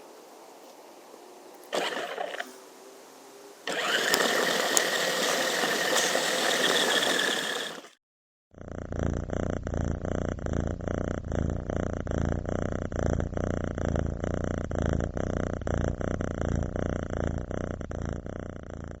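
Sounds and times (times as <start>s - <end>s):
cat purring: 1.6s - 2.6s, 3.7s - 8.0s, 8.6s - 19.0s.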